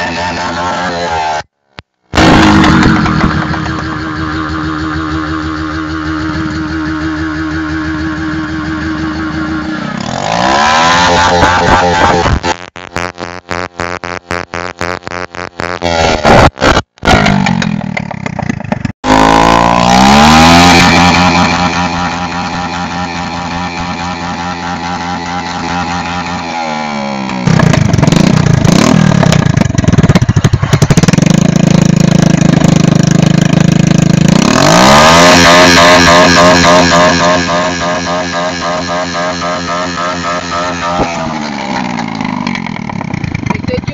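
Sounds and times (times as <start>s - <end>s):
motorcycle engine revving: 0.0s - 43.9s
exhaust popping and crackling: 1.7s - 43.9s.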